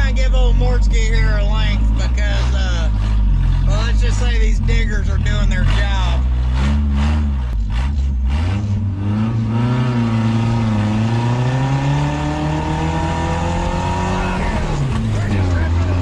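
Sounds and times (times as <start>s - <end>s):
truck engine accelerating hard: 0.0s - 16.0s.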